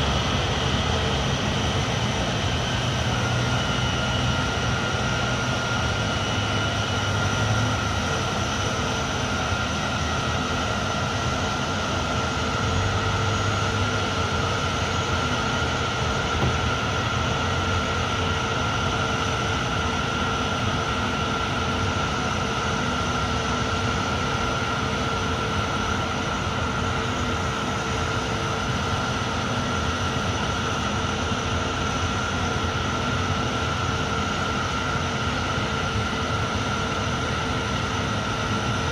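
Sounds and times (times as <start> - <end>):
aircraft engines whining: 0.0 - 38.9.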